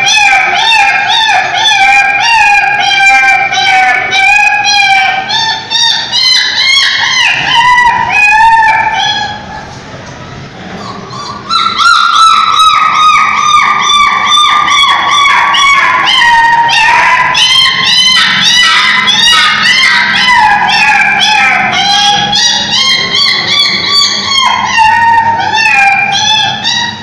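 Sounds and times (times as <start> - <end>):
puppy yelping: 0.0 - 9.8, 10.6 - 27.0
puppy whining: 0.0 - 9.9, 10.6 - 27.0.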